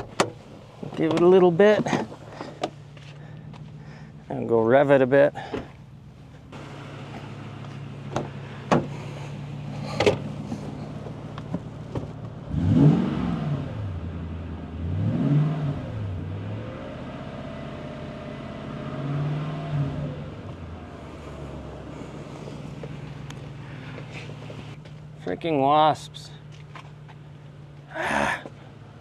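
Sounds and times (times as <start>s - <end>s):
pickup engine idling and revving: 0.0s - 29.0s.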